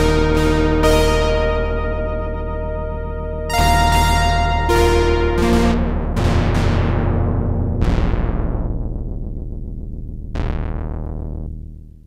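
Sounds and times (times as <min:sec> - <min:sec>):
held low synth note: 0:00.0 - 0:10.5
synthesizer chords: 0:00.0 - 0:11.4.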